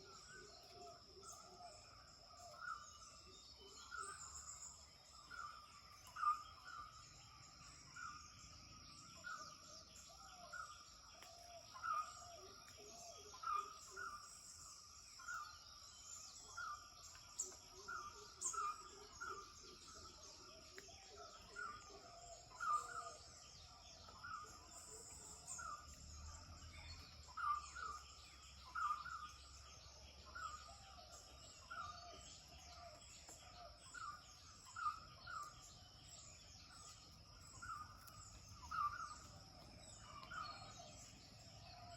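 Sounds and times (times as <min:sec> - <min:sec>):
birds calling: 0:00.0 - 0:41.9.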